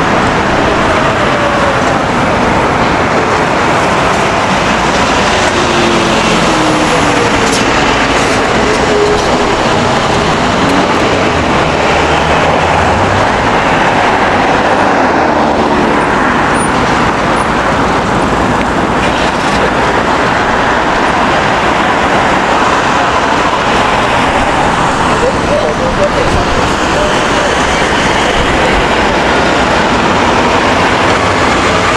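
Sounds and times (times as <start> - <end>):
road traffic: 0.0 - 31.9
vehicles passing: 0.0 - 31.9.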